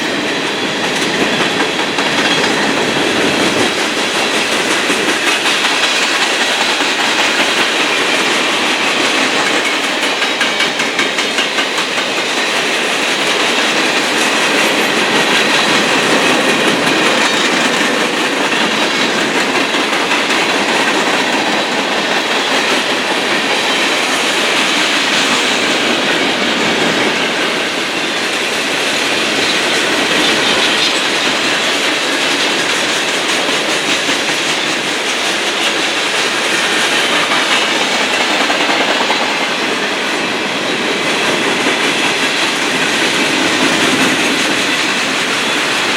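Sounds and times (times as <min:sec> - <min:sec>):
freight train wheels on rails: 0:00.0 - 0:45.9.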